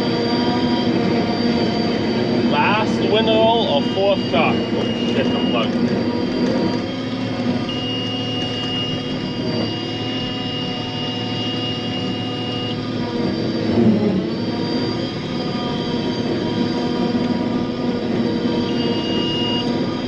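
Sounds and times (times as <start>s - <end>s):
forage harvester engine running: 0.0s - 20.0s
high-pitched warning alarm tone: 0.0s - 20.0s.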